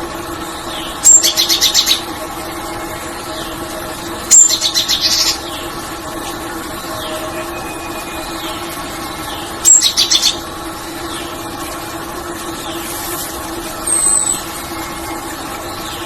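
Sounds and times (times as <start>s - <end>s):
steady hum: 0.0s - 16.0s
songbird singing: 0.3s - 12.9s, 13.6s - 16.0s.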